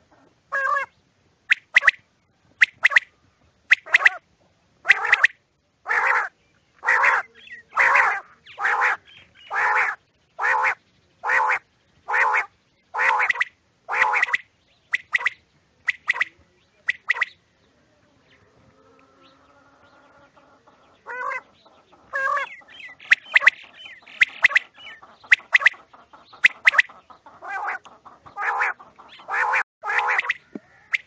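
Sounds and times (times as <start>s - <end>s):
quails calling: 0.0s - 2.0s, 2.6s - 3.1s, 3.7s - 4.2s, 4.8s - 17.4s, 18.9s - 31.0s.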